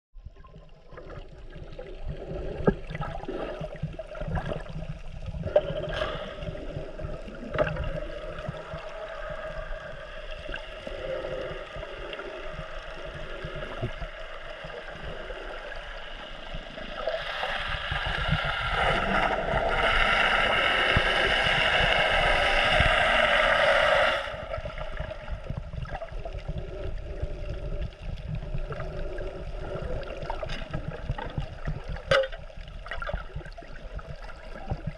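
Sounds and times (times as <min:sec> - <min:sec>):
water sloshing and gurgling: 0:00.2 - 0:34.9.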